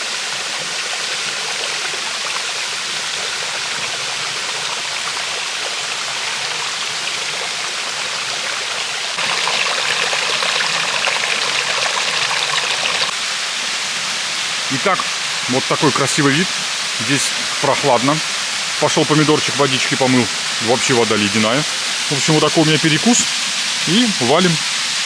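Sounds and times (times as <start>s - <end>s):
stream and waterfall roaring: 0.0s - 25.0s.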